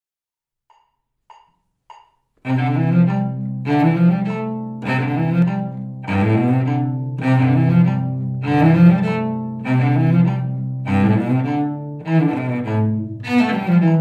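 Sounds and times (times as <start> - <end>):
cello bowed notes: 2.4 - 14.0.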